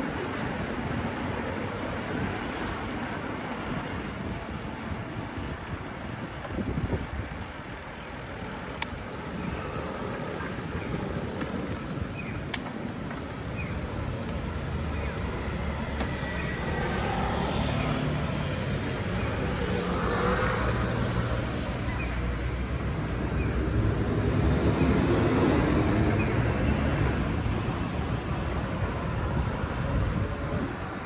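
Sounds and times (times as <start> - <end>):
passing traffic: 0.0 - 31.0
wind and road noise: 0.0 - 31.0.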